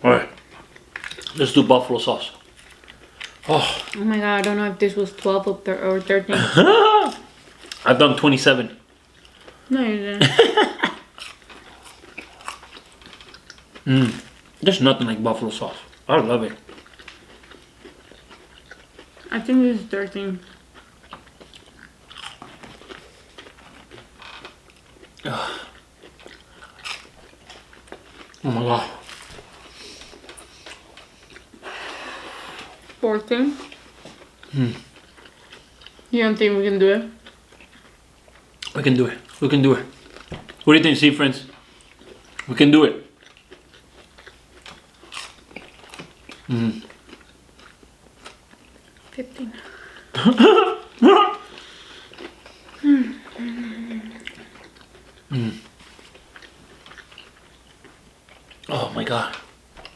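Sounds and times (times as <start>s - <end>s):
people chewing food: 0.0s - 59.9s.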